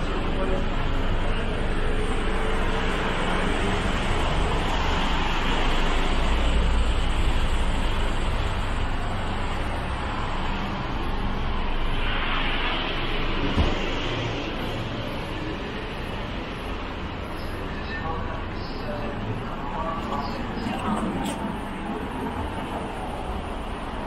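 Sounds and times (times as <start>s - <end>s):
deep engine rumble: 0.0s - 23.9s
road traffic: 0.0s - 24.0s.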